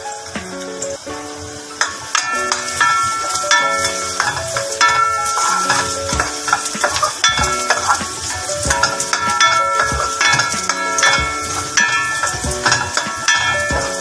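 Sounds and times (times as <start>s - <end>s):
background music: 0.0s - 14.0s
garlic sizzling in oil: 0.0s - 14.0s.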